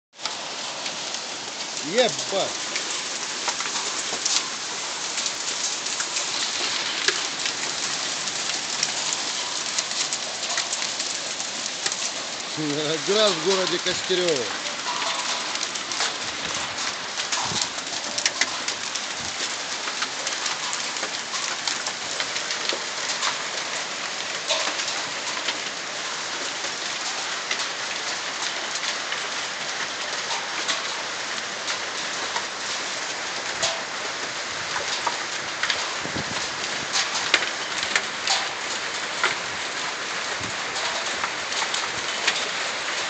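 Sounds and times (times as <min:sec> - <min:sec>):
hail falling hiss: 0:00.2 - 0:43.0
hailstones clacking on hard surfaces: 0:00.2 - 0:43.0.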